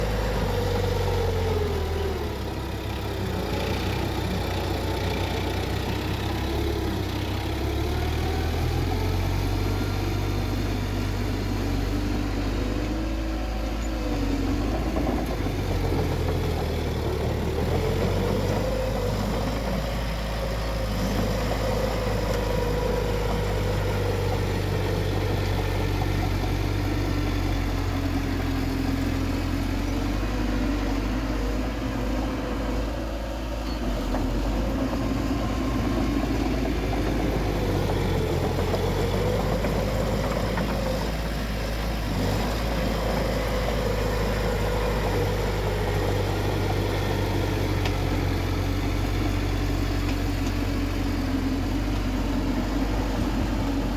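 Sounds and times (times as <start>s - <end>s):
diesel engine drone: 0.0s - 53.9s.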